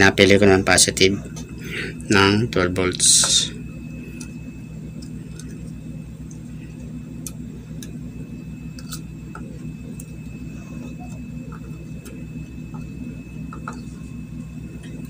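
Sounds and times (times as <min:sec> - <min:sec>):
low hum with fast flutter: 0:00.0 - 0:15.0.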